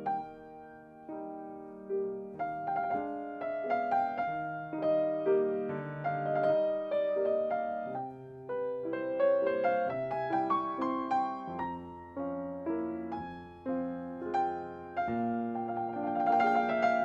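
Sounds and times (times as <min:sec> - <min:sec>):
slow gentle solo piano: 0:00.0 - 0:17.0.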